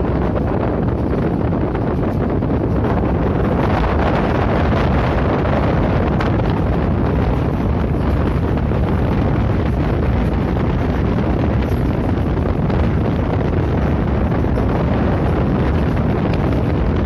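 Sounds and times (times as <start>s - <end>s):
train rumbling on rails: 0.0s - 17.0s
wind buffeting microphone: 0.0s - 17.0s.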